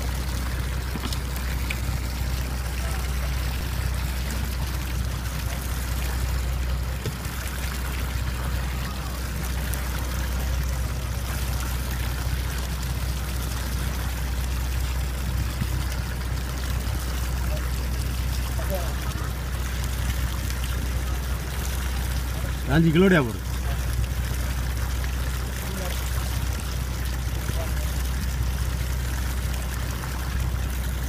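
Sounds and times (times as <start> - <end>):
boat engine droning: 0.0 - 31.0
water splashing against hull: 0.0 - 31.0.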